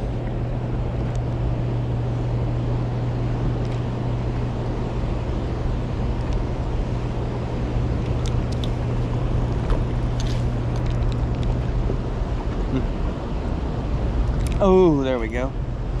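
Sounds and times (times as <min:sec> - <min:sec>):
constant low hum: 0:00.0 - 0:16.0
wind: 0:00.0 - 0:16.0.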